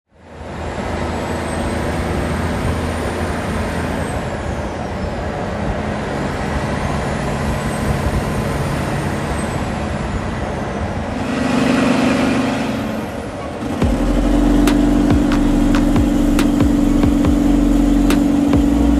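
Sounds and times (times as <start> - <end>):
truck engine drone: 0.1 - 18.9
tyre and road noise: 0.1 - 18.9.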